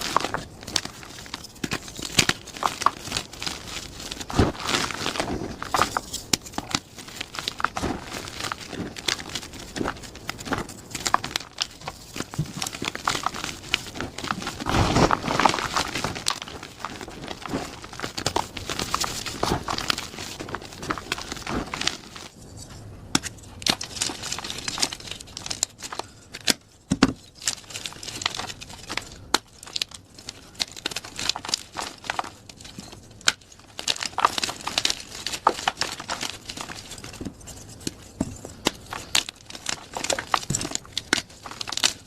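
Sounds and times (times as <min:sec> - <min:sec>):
chalk crushing crackles: 0:00.0 - 0:22.3, 0:27.6 - 0:42.0.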